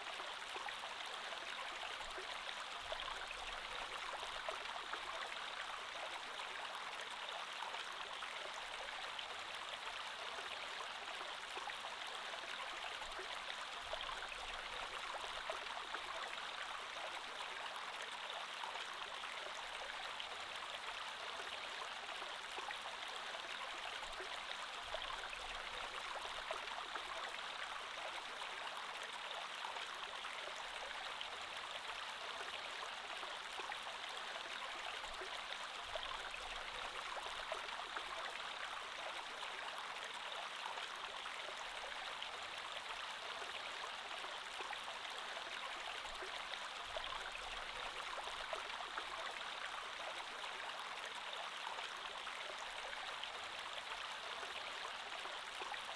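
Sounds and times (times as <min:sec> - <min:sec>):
creek water babbling over stones: 0:00.0 - 0:55.9.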